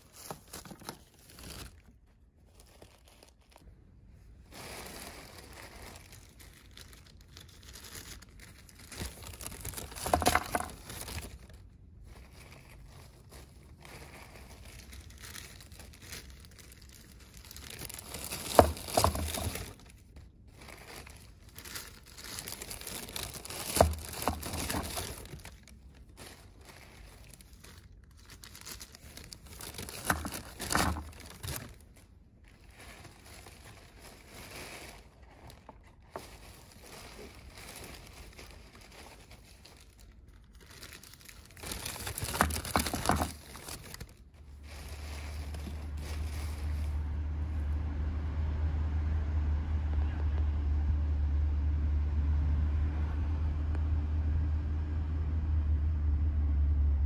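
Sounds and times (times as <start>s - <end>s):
plastic sheeting crinkling: 0.0s - 47.4s.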